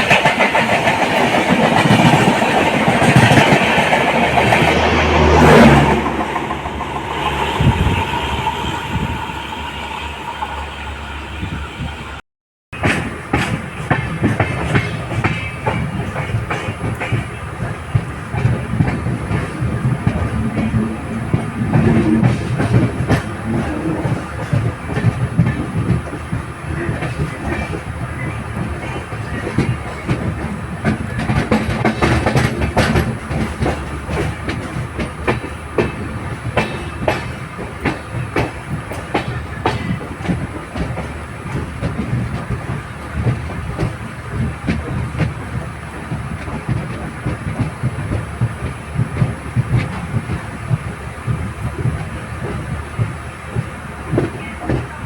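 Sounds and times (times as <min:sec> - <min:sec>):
wheels clacking over rail joints: 0:00.0 - 0:08.6, 0:12.8 - 0:55.0
train rumbling on rails: 0:00.0 - 0:55.0.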